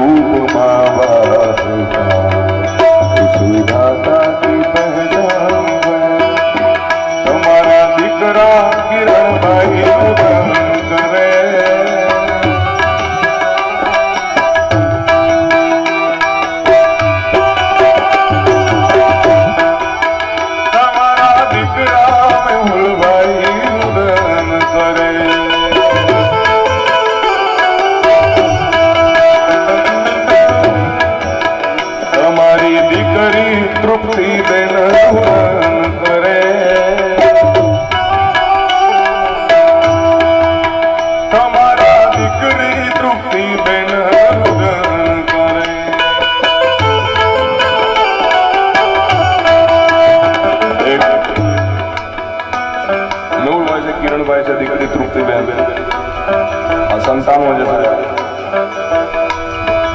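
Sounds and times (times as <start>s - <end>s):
harmonium notes: 0.0s - 59.9s
keyed melody instrument: 0.0s - 59.9s
tabla rhythm: 0.0s - 59.9s.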